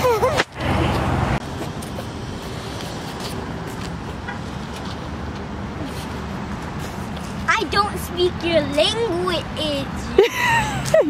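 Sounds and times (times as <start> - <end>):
traffic rumble in parking lot: 0.0 - 11.0.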